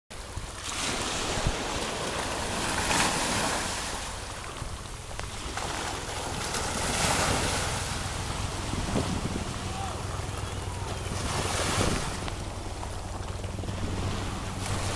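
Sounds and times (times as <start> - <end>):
small waves washing on beach: 0.2 - 14.9
wind rumbling on microphone: 0.2 - 14.9.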